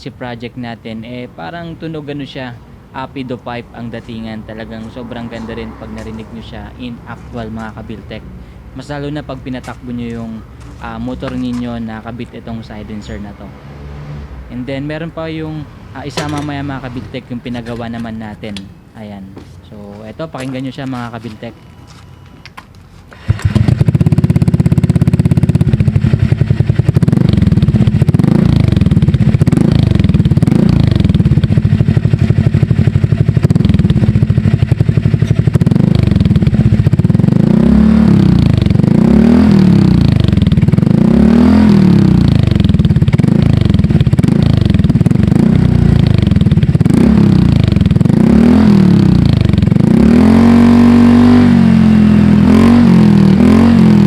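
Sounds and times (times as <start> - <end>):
scooter engine idling and revving: 0.0 - 18.9, 23.2 - 54.0.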